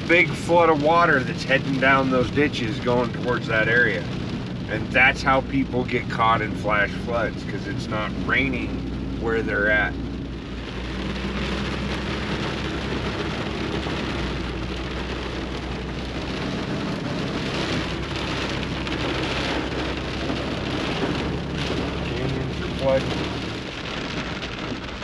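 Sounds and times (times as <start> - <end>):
engine hum: 0.0 - 25.0
rain pattering on a car roof: 0.0 - 25.0
road noise: 0.0 - 25.0.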